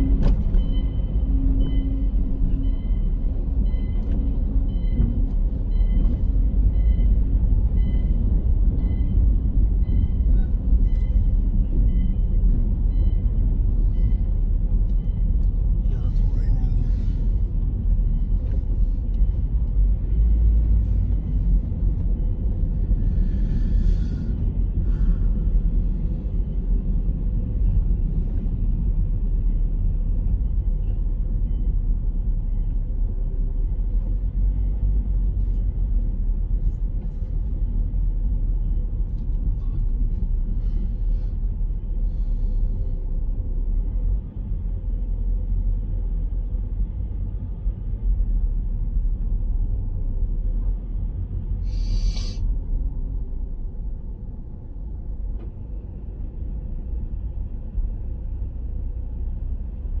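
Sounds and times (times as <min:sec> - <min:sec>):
car driving rumble inside cabin: 0:00.0 - 1:00.0.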